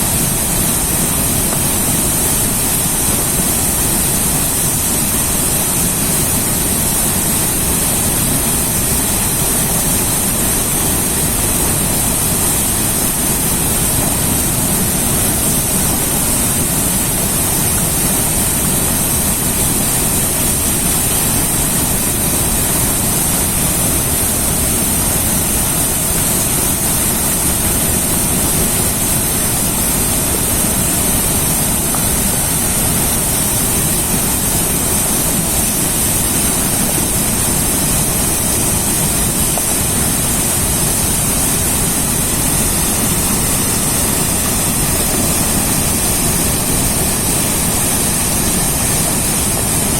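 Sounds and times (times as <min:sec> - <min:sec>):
hiss of spray: 0:00.0 - 0:49.9
river water rushing: 0:00.0 - 0:49.9.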